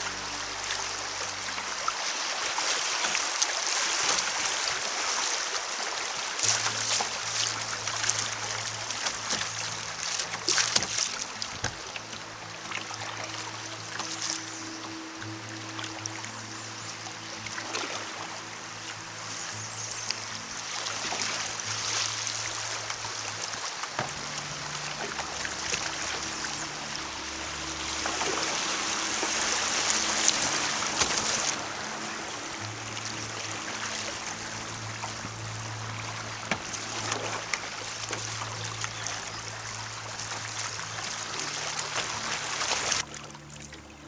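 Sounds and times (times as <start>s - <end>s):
creek water rushing: 0.0s - 44.0s
low background music: 0.0s - 44.0s.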